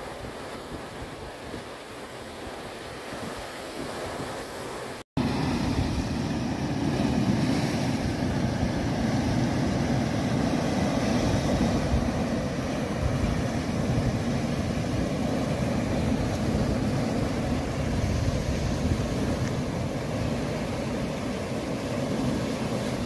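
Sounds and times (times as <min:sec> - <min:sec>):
waves breaking on rocky shore: 0:00.0 - 0:23.0.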